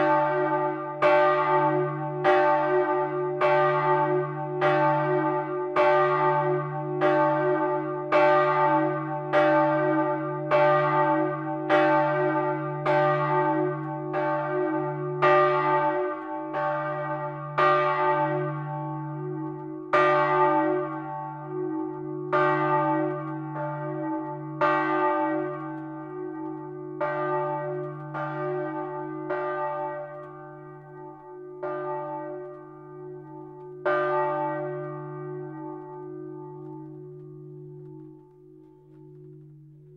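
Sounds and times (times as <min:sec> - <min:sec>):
church bell clapper striking: 0:00.0 - 0:39.9.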